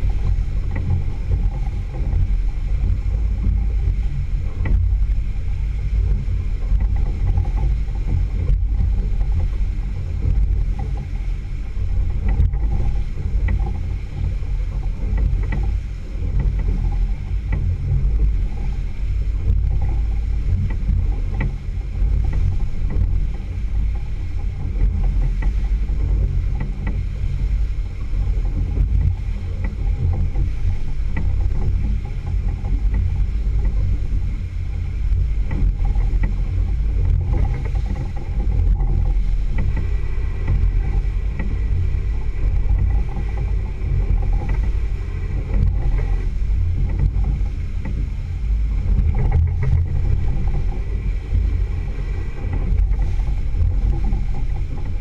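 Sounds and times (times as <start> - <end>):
hull rushing through choppy water: 0.0 - 55.0
outboard motor running: 0.0 - 55.0.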